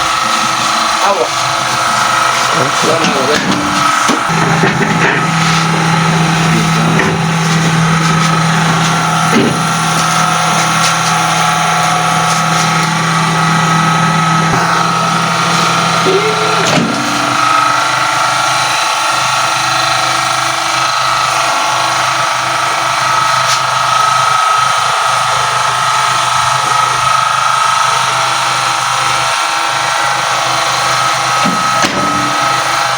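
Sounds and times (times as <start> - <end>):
microwave oven humming: 0.0 - 32.9.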